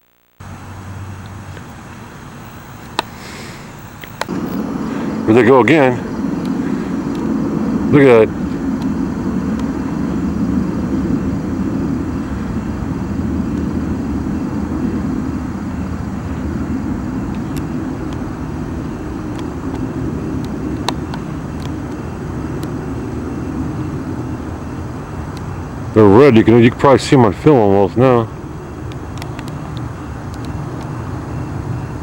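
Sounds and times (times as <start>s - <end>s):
distant engine rumble: 0.4s - 32.0s.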